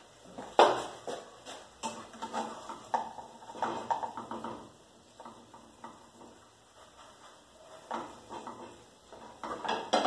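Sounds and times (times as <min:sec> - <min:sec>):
metal utensil scraping a frying pan: 0:01.8 - 0:10.0.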